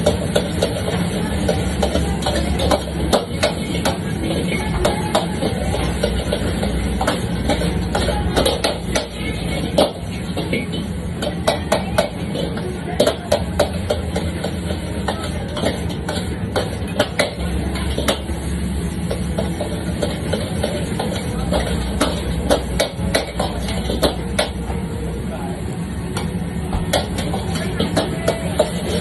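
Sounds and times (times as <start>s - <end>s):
metal utensils scraping a wok: 0.0s - 24.7s, 26.9s - 29.0s
steady low burner roar: 0.0s - 29.0s.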